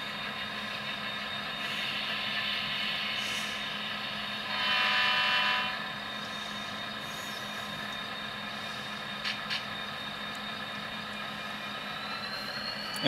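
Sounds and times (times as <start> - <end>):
diesel engine sound from small speaker: 0.0 - 13.0.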